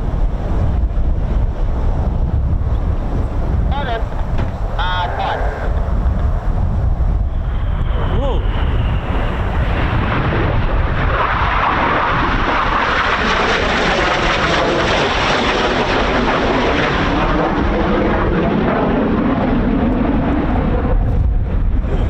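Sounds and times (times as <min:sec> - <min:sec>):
wind buffeting microphone: 0:00.0 - 0:22.0
jets passing roar: 0:02.9 - 0:21.8.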